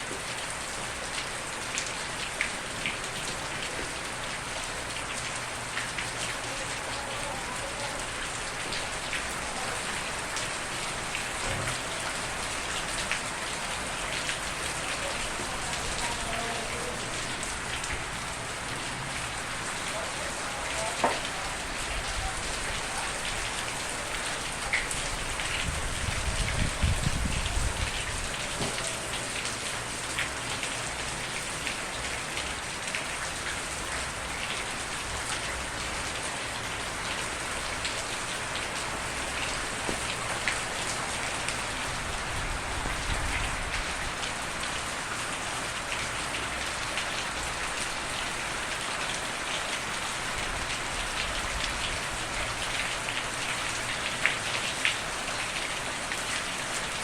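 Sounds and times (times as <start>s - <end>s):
rain on hard surface: 0.0s - 57.0s.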